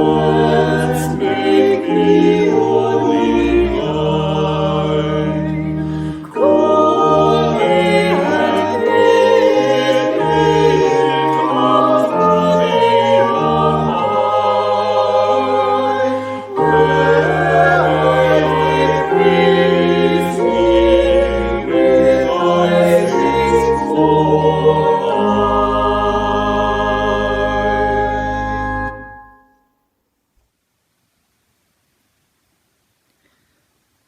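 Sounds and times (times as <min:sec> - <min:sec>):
choir singing: 0:00.0 - 0:29.2.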